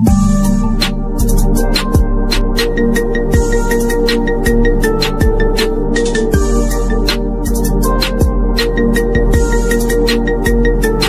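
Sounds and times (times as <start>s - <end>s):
electronic music with synth: 0.0s - 11.0s.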